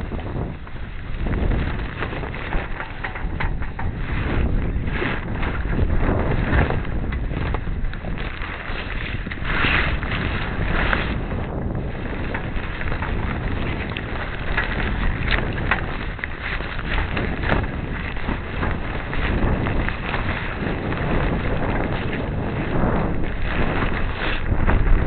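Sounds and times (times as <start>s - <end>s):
water splashing against hull: 0.0s - 25.0s
wind buffeting microphone: 0.0s - 25.0s.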